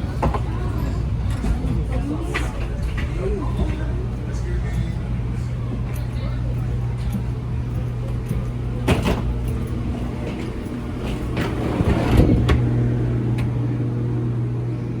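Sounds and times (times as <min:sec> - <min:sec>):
airliner cabin hum: 0:00.0 - 0:15.0.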